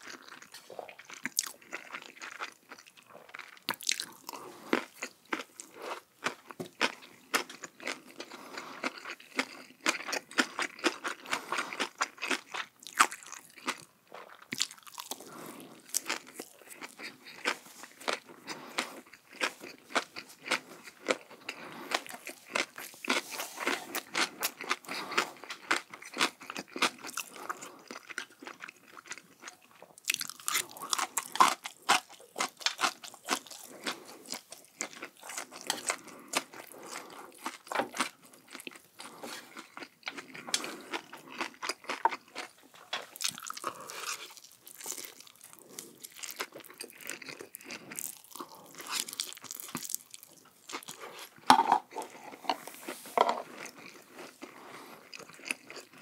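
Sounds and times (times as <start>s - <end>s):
chewing crunchy food: 0.0s - 56.0s.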